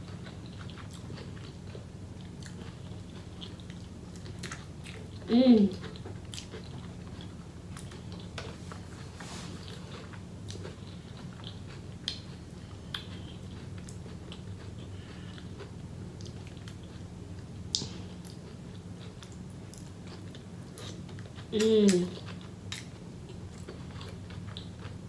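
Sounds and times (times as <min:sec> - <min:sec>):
faint steady low hum: 0:00.0 - 0:25.0
chewing and wet mouth smacks: 0:00.1 - 0:08.8, 0:09.7 - 0:25.0.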